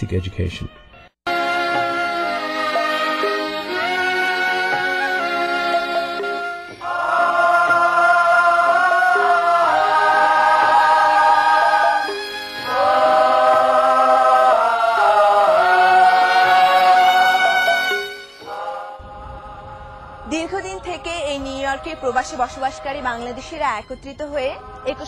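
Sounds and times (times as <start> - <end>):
choir singing long notes: 1.3 - 23.6.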